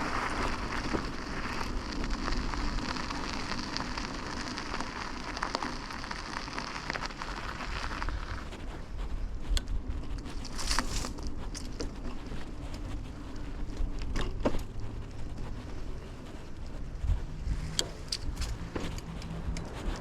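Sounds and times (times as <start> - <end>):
bike clicks and rattles: 0.0 - 20.0
tyres and wind rumble: 0.0 - 20.0.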